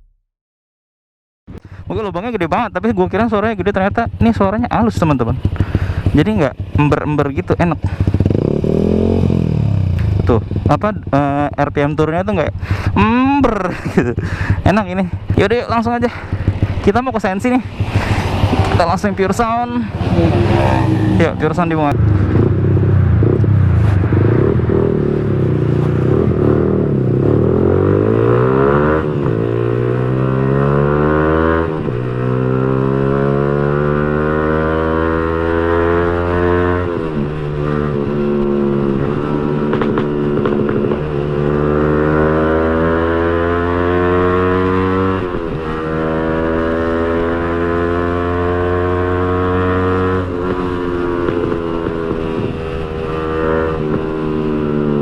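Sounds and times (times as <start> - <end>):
motorcycle engine accelerating: 2.6 - 55.0.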